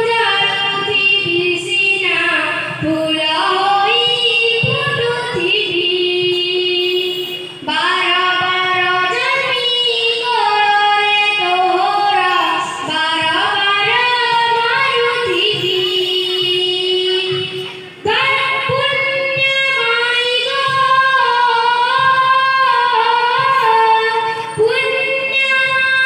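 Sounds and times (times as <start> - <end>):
child singing into microphone: 0.0 - 26.0.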